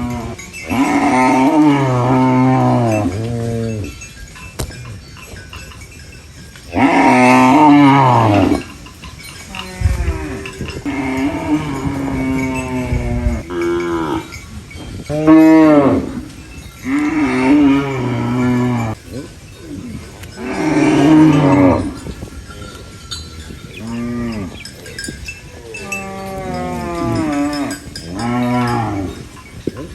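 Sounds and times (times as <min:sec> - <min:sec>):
cattle mooing: 0:00.0 - 0:04.0, 0:06.7 - 0:08.7, 0:09.5 - 0:14.4, 0:15.1 - 0:29.9.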